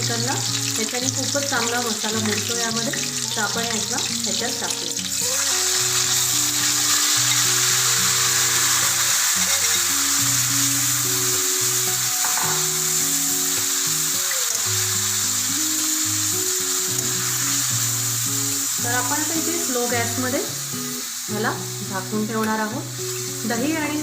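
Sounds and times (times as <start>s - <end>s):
background music with held notes: 0.0s - 24.0s
chicken sizzling in hot oil: 0.0s - 24.0s.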